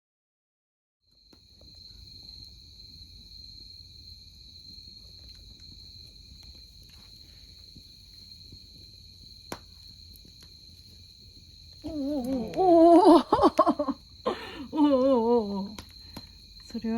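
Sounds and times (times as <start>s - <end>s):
crickets trilling: 1.1s - 16.9s.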